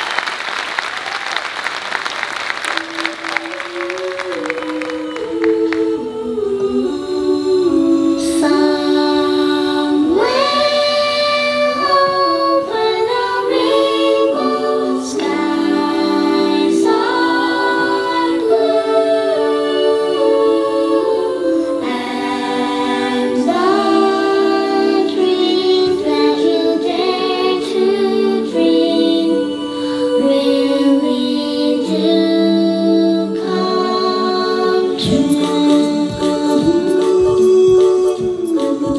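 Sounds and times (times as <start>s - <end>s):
a cappella group singing in harmony: 2.7s - 38.9s
woman singing: 2.8s - 38.9s.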